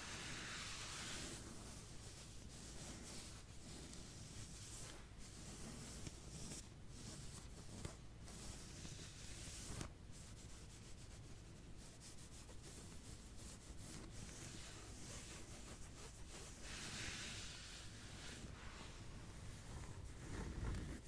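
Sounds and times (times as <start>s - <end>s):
scratching strokes: 0.0s - 21.0s.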